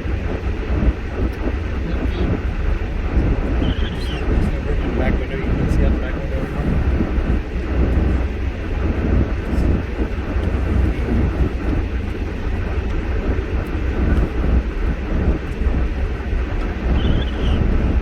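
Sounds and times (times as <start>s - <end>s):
vehicle cabin low rumble: 0.0s - 18.0s.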